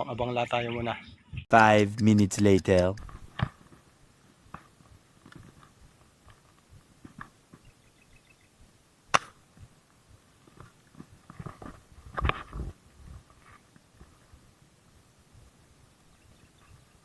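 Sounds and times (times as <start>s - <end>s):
rustling: 3.0s - 17.0s.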